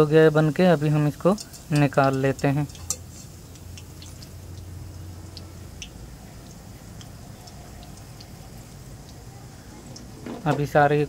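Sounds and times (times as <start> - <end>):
oil sizzling: 0.0 - 11.0
sharp crackles and drips: 0.0 - 11.0.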